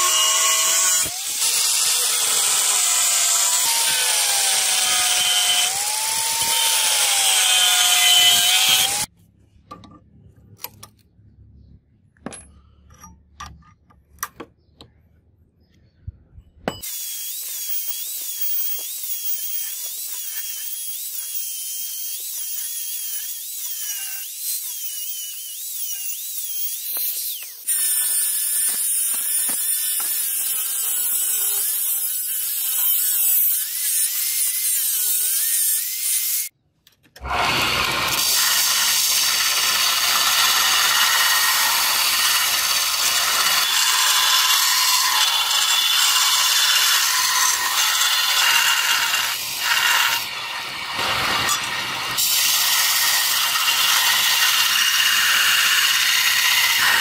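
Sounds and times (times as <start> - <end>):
angle grinder grinding metal: 0.0 - 9.1, 16.7 - 36.5, 37.2 - 57.0.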